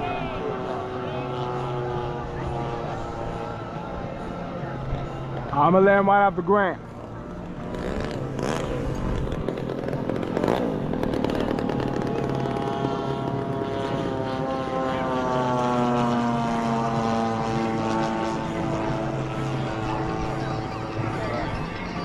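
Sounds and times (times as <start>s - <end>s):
model airplane engines droning: 0.0s - 22.0s.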